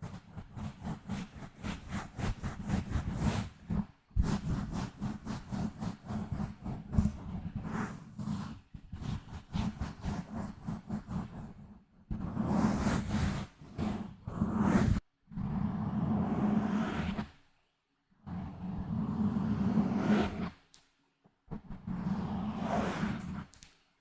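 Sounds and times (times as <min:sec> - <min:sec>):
scratching on a microphone: 0:00.0 - 0:17.4, 0:18.3 - 0:20.6, 0:21.5 - 0:23.6.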